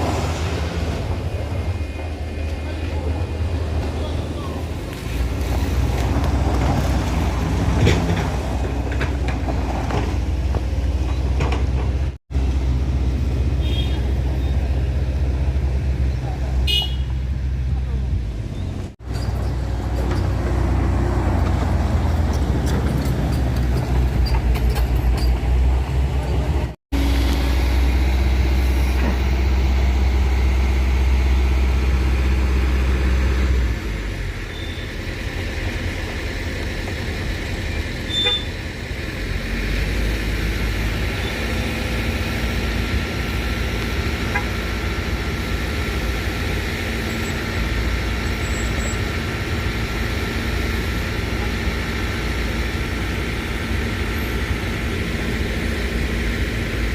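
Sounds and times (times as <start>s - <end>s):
traffic noise: 0.0s - 56.9s
truck diesel engines running hard: 0.0s - 56.9s.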